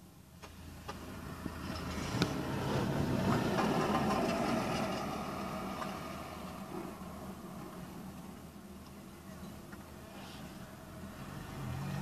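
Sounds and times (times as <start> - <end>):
bus driving past: 0.6 - 8.7, 10.0 - 12.0.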